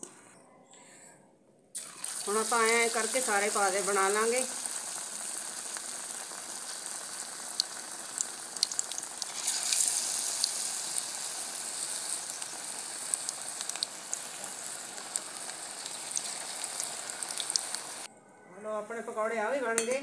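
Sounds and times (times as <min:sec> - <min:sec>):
batter sizzling in hot oil: 0:01.8 - 0:18.1
oil popping and crackling: 0:01.8 - 0:18.1.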